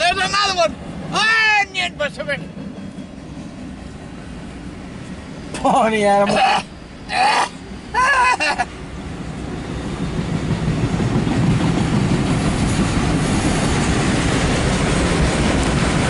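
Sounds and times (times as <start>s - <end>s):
train wheels on rail: 0.0s - 6.1s, 6.7s - 16.0s.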